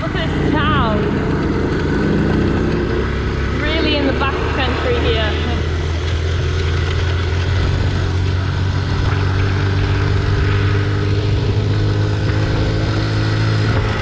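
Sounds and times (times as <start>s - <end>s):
motorcycle engine running: 0.0s - 14.0s
tyres on gravel road: 0.0s - 14.0s.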